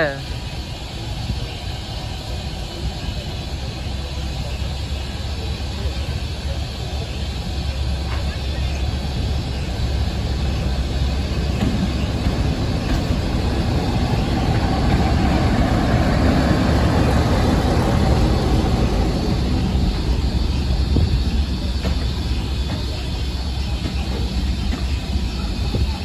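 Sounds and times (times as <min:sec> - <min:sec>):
coaches rolling on rails: 0:00.0 - 0:26.0
diesel locomotive engine: 0:00.0 - 0:26.0.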